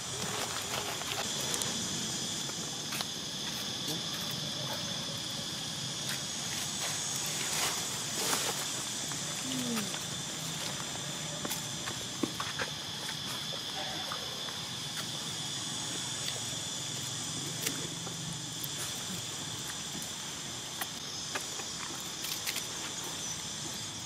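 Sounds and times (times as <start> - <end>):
insects chorus: 0.0 - 24.0.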